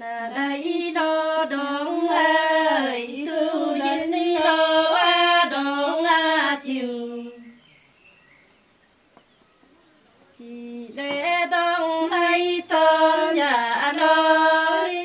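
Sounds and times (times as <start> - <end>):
woman singing unaccompanied: 0.0 - 7.7, 10.4 - 15.0.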